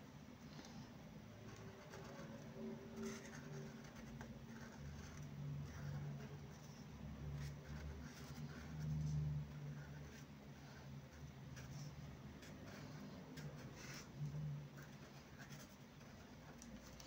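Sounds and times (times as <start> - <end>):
felt marker scratching on paper: 1.5 - 17.0.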